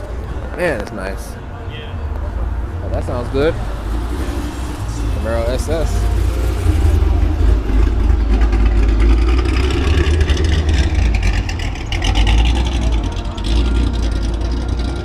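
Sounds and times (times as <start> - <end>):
car engine running: 2.2 - 15.0.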